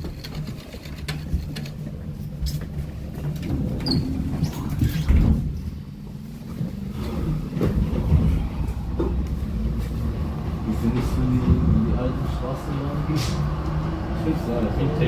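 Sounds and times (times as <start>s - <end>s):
tram running rumble: 0.0s - 15.0s.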